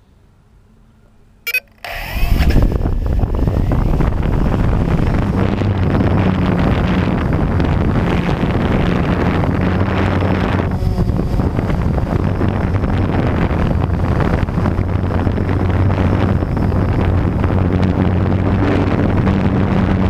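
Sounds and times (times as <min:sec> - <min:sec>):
drone motors whining and humming: 0:01.5 - 0:20.0
propeller wash buffeting microphone: 0:01.9 - 0:20.0.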